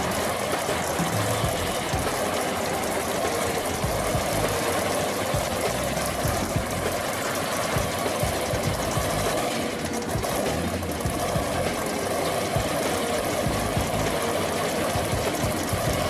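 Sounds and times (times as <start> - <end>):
supercharged engine idling: 0.0 - 16.0.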